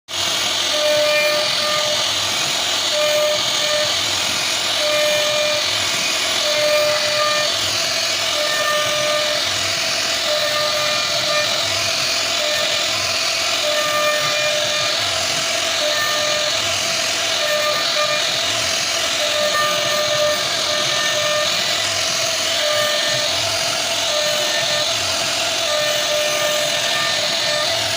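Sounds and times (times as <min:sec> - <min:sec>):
axis motor tones: 0:00.1 - 0:27.9
cnc router spindle whining: 0:00.1 - 0:27.9.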